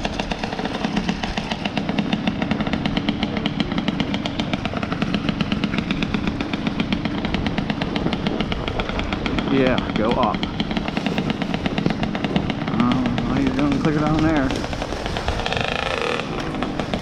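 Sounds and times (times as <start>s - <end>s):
dirt bike engine popping: 0.0s - 17.0s.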